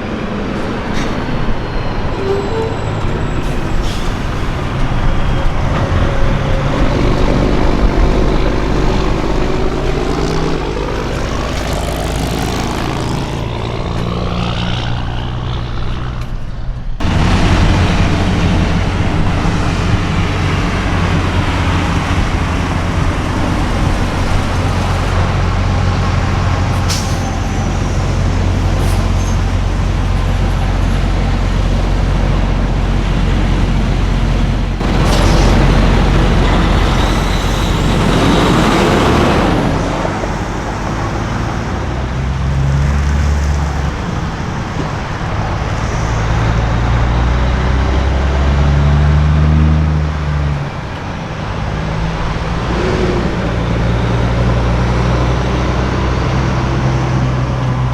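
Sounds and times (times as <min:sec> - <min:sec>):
diesel trucks passing: 0:00.0 - 0:57.9
tyre and road noise: 0:00.0 - 0:57.9.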